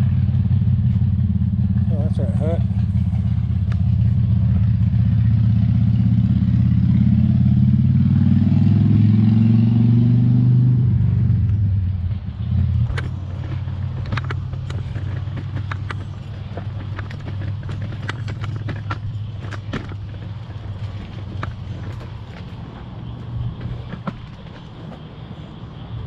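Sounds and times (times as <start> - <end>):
motor engine running: 0.0 - 26.0.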